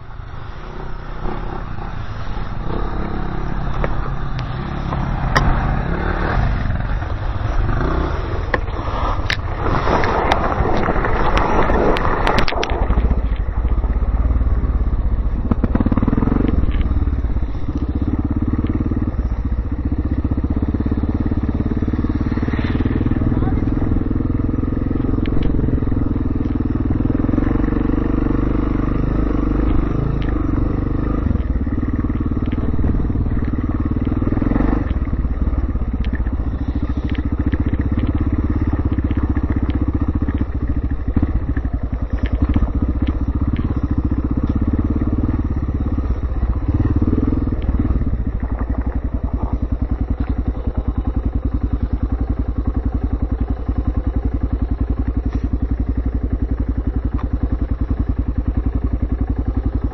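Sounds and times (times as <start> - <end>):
motorcycle engine running: 0.0 - 59.9
tyres on dirt and gravel: 0.0 - 59.9.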